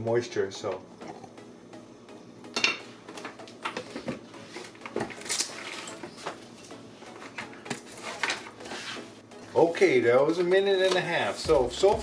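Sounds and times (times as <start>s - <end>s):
faint kitchen room noise: 0.0s - 11.4s.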